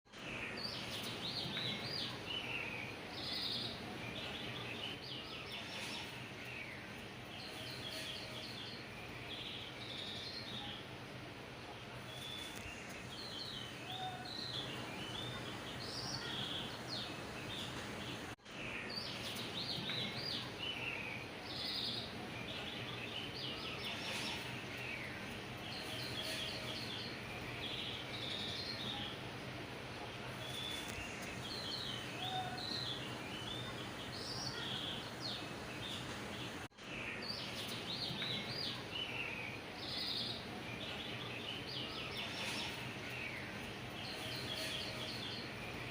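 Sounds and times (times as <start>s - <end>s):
birds chirping and twittering: 0.1s - 45.9s.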